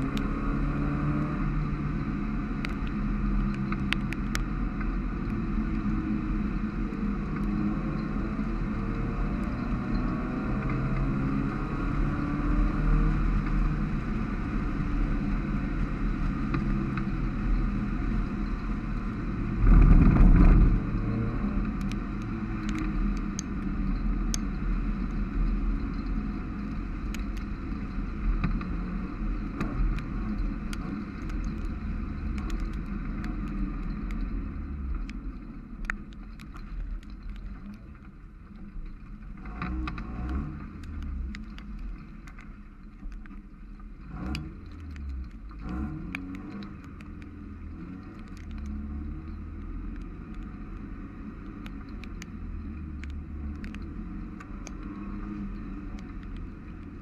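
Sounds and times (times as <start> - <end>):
car engine under racing load: 0.0 - 57.0.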